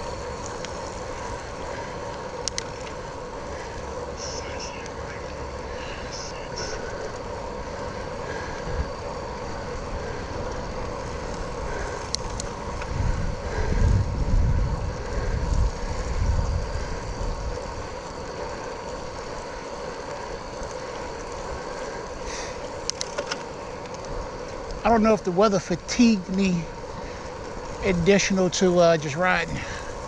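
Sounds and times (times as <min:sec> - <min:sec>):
wind buffeting microphone: 0:00.0 - 0:23.0, 0:24.0 - 0:30.0
bicycle riding on wet trail: 0:00.0 - 0:30.0.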